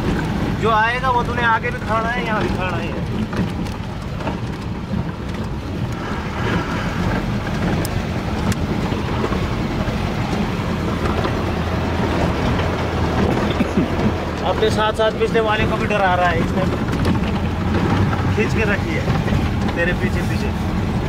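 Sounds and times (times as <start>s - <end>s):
rumbling road noise: 0.0s - 21.0s
vehicle engine droning: 0.0s - 21.0s.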